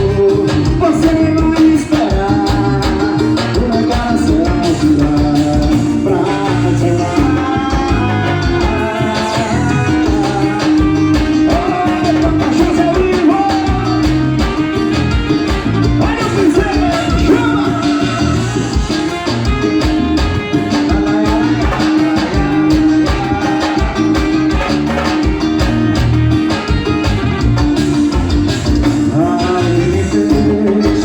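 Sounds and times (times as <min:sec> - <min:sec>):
person singing: 0:00.0 - 0:14.9, 0:15.8 - 0:19.5, 0:20.4 - 0:25.1, 0:28.8 - 0:31.0
band with steady beat: 0:00.0 - 0:31.0.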